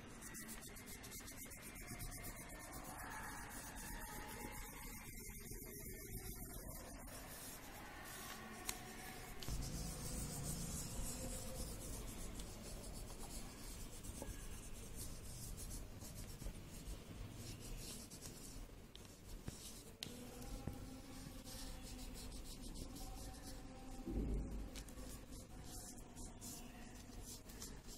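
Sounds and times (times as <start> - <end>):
crayon scraping on paper: 0.0 - 24.0, 24.7 - 27.9.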